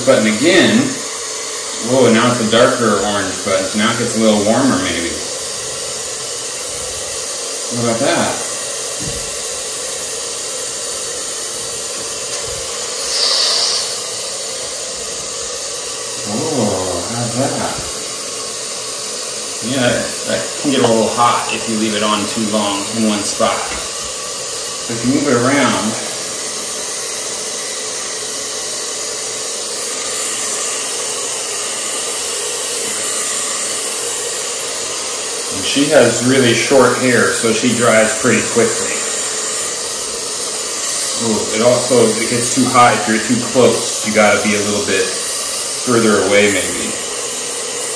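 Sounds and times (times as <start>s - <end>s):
pet dryer blowing air: 0.0s - 47.9s.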